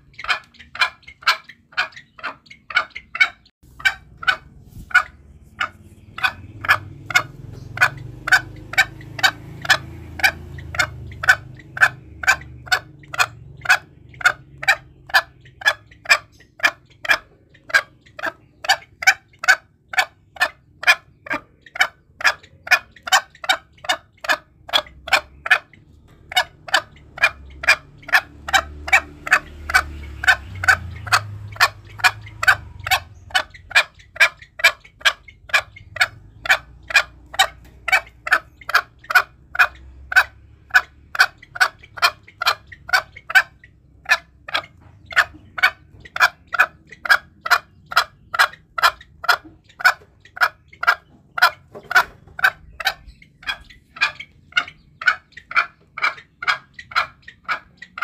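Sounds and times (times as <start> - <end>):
junglefowl clucking calls: 0.0 - 58.0.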